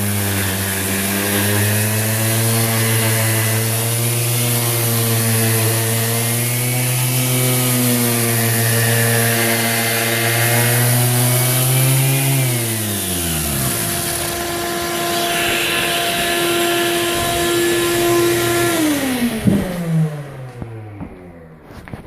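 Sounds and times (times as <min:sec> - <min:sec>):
orbital sander on wooden floor: 0:00.0 - 0:22.0
shop vacuum: 0:00.0 - 0:22.0.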